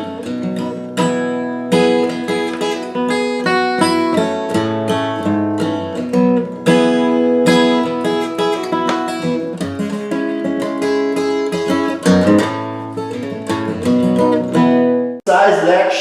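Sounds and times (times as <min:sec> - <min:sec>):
acoustic guitar playing: 0:00.0 - 0:15.2.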